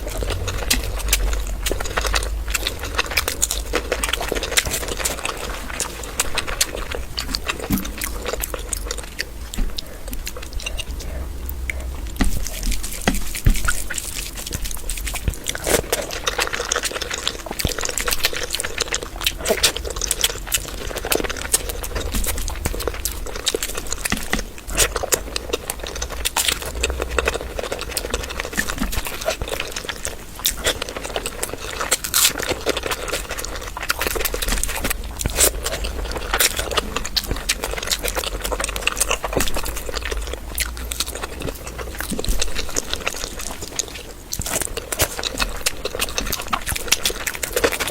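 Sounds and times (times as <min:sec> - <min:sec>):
low steady hum: 0:00.0 - 0:47.9
person chewing and mouth smacking: 0:00.0 - 0:47.9.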